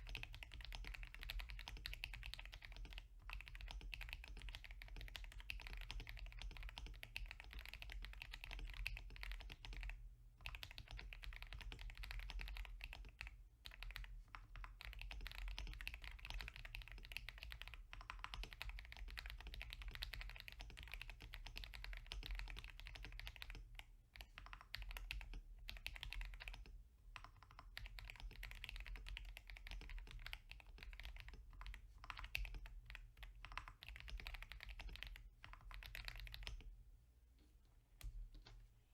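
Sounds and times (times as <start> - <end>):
mechanical keyboard typing: 0.0 - 36.7.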